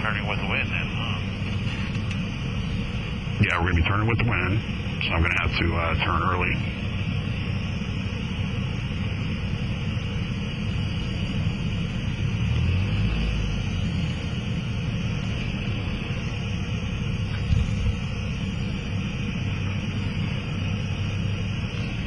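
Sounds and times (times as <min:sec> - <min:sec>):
idling aircraft engine drone: 0:00.0 - 0:22.0
low rumble: 0:00.0 - 0:22.0.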